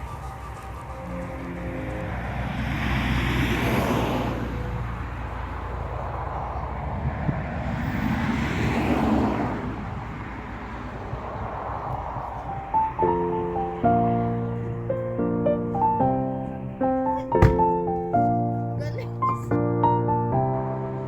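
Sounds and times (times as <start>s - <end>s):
low traffic rumble: 0.0s - 19.5s
vehicles passing: 0.0s - 19.6s, 20.3s - 21.0s.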